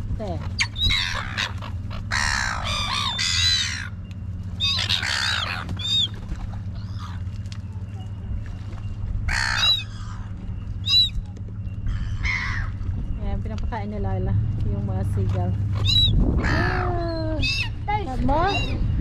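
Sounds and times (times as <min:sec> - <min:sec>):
seagulls squawking: 0:00.5 - 0:08.5, 0:09.1 - 0:13.1, 0:15.5 - 0:19.0.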